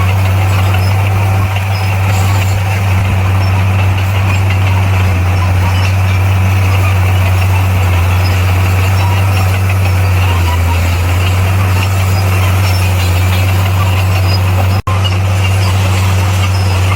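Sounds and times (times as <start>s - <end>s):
bulldozer diesel engine droning: 0.0s - 16.9s.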